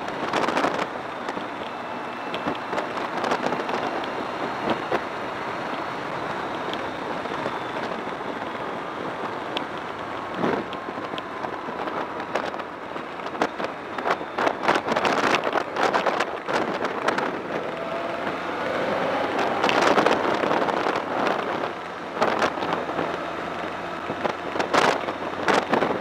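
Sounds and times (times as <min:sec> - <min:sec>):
wind rushing on microphone: 0:00.0 - 0:26.0.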